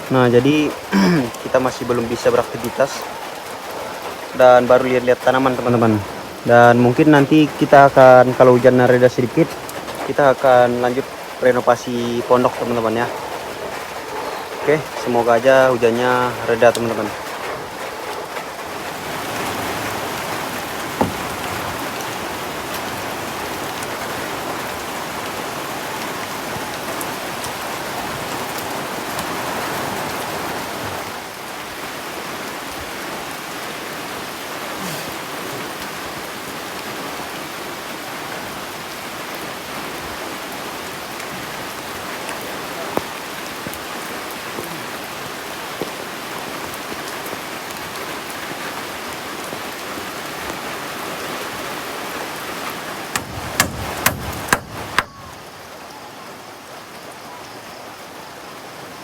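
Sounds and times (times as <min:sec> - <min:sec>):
sharp raindrops striking close: 0:00.0 - 0:55.8
steady rain falling: 0:00.0 - 0:59.0.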